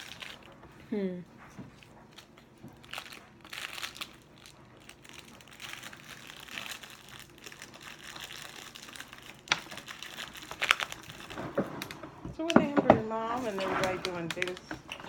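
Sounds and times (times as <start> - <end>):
plastic packaging crinkling: 0.0 - 0.8, 1.7 - 15.0.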